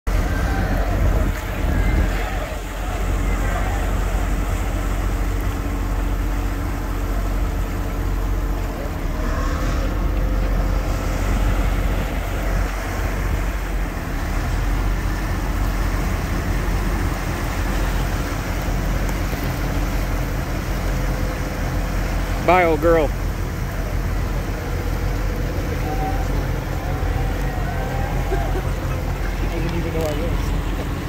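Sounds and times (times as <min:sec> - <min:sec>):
diesel engine rumble: 0:00.0 - 0:31.0
propeller wash churning water: 0:00.0 - 0:31.0.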